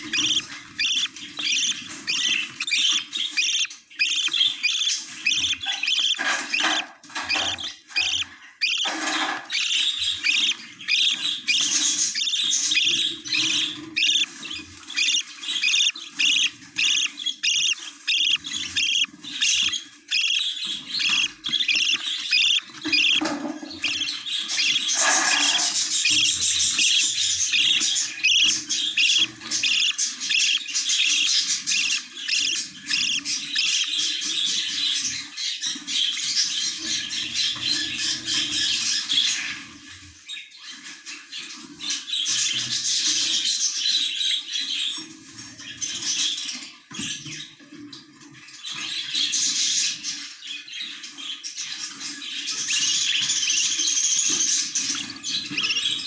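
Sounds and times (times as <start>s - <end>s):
chicks squawking chirps: 0.0s - 47.9s, 48.7s - 56.0s.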